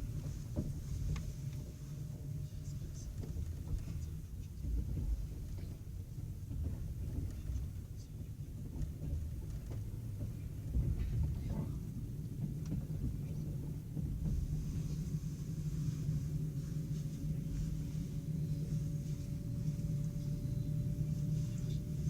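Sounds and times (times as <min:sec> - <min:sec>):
train rumble from inside carriage: 0:00.0 - 0:22.0.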